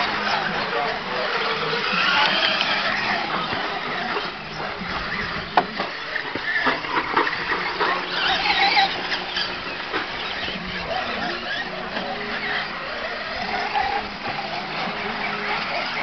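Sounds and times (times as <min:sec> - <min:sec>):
small engines whining: 0:00.0 - 0:16.0.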